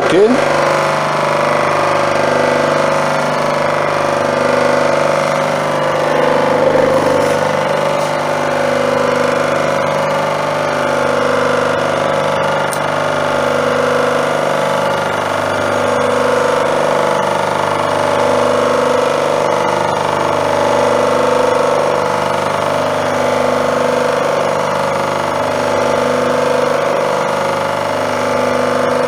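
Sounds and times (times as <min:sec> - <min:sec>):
drum sander motor hum: 0:00.0 - 0:29.0.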